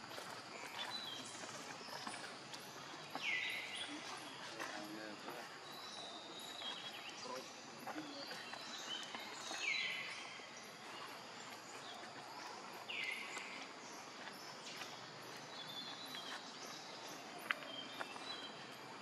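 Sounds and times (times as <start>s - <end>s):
faint outdoor chirping: 0.0s - 19.0s.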